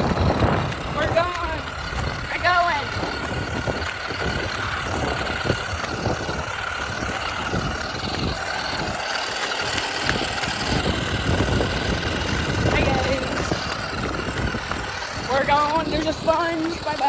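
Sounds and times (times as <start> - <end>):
toy car electric motor whining: 0.0 - 17.0
wind rumble on microphone: 0.0 - 17.0.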